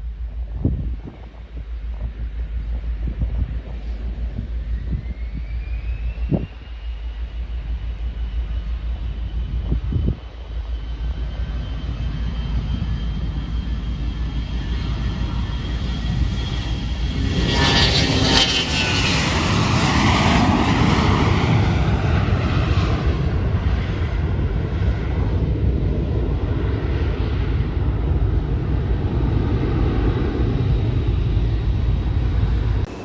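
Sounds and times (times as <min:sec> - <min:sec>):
jet engines passing by: 0:00.0 - 0:33.0.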